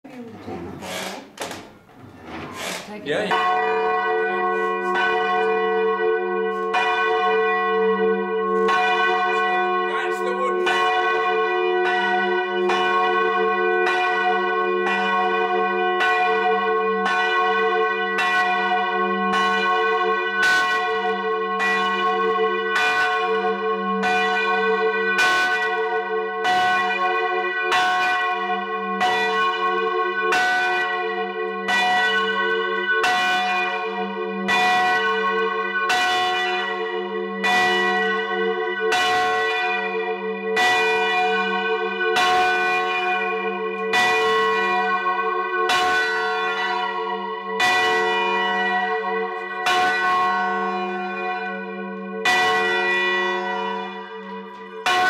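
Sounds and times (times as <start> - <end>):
hum of ringing bells: 3.0 - 55.0.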